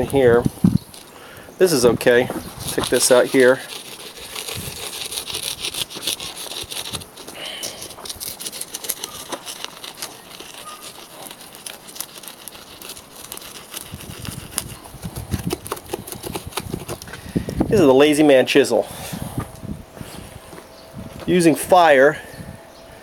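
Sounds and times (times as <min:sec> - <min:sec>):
burning charcoal crackling: 0:00.0 - 0:22.3.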